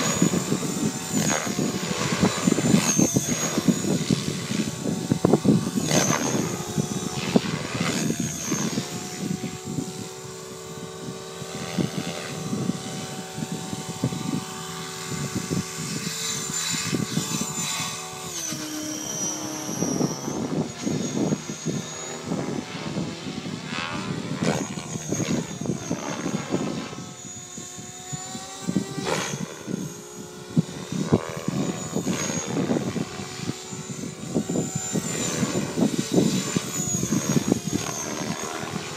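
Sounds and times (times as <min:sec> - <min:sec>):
helicopter rotor whine and blade chop: 0:00.0 - 0:38.9.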